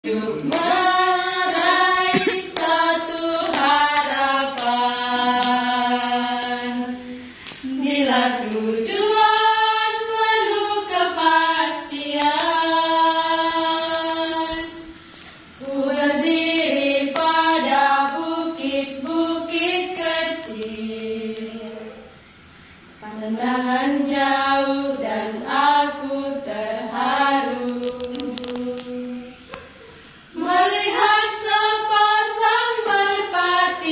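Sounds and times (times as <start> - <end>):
women singing together: 0.0 - 22.2, 23.0 - 33.9.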